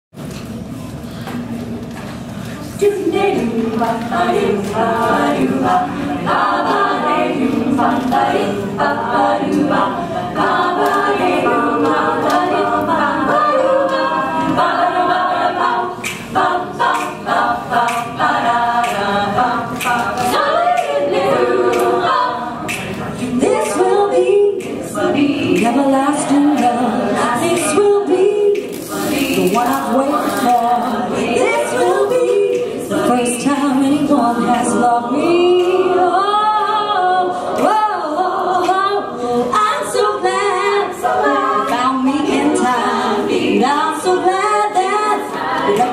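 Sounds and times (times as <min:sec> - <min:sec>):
women singing in close harmony: 0:02.7 - 0:45.9.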